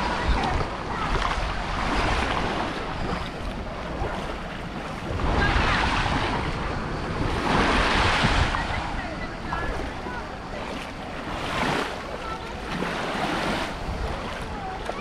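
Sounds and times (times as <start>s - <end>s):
small waves washing on sand: 0.0s - 15.0s
wind rumbling on microphone: 0.0s - 15.0s.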